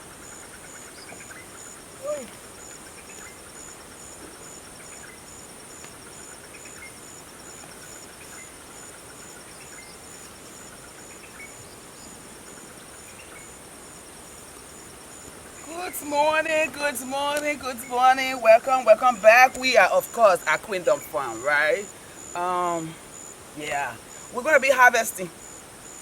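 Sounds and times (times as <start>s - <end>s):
insect pulsing chirp: 0.0s - 26.0s
insects trilling: 0.0s - 26.0s.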